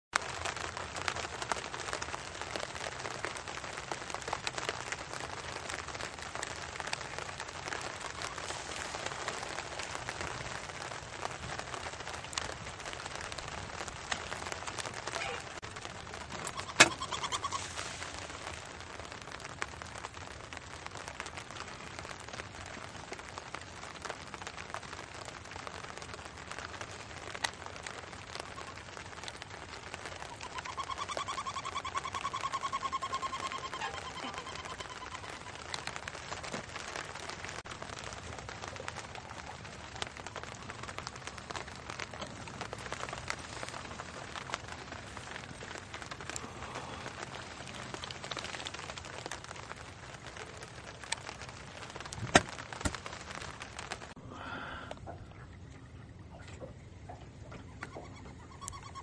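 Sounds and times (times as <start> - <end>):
light rain pattering: 0.1 - 59.0.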